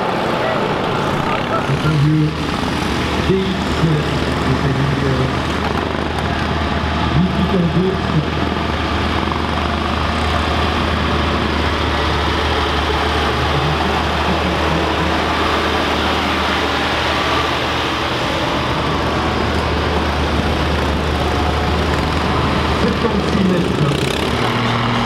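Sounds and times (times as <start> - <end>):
tractor diesel engine passing: 0.0 - 25.0.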